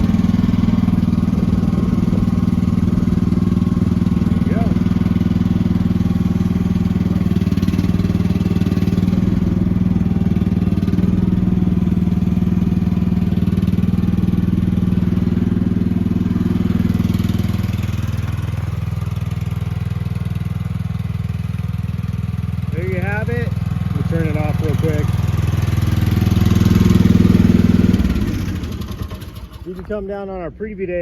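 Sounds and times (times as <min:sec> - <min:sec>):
small petrol engine running: 0:00.0 - 0:29.9.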